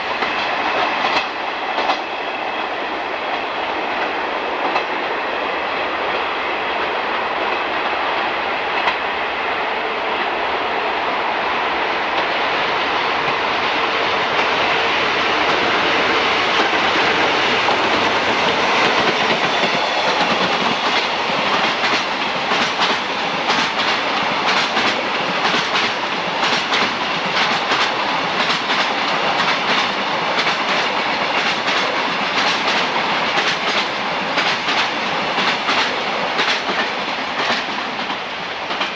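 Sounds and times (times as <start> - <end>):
train rushing rumble: 0.0 - 38.9.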